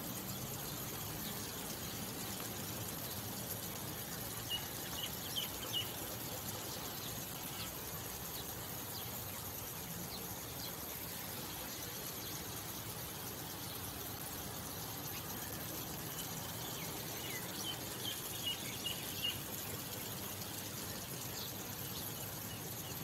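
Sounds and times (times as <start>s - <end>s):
outdoor hiss: 0.0s - 23.0s.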